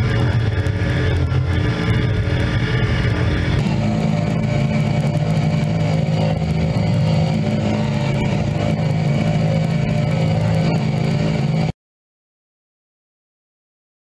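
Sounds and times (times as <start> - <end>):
riding mower engine running: 0.0 - 11.7.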